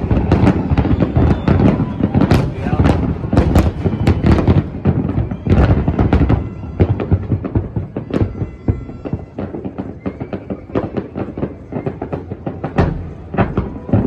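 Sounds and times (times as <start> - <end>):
fireworks bangs and crackling pops: 0.0 - 14.0.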